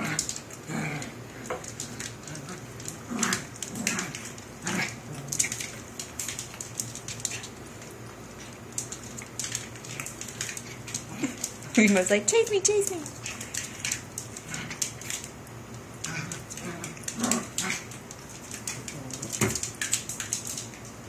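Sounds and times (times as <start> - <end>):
claws clicking on tile: 0.0 - 21.0
dogs scuffling: 0.0 - 21.0.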